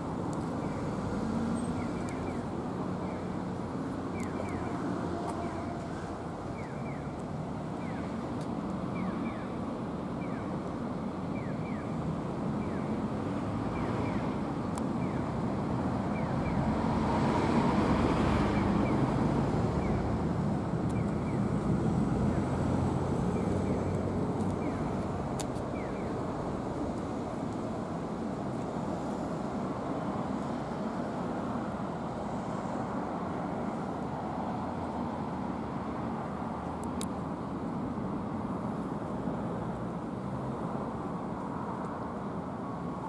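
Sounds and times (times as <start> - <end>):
passing road traffic: 0.0 - 43.0.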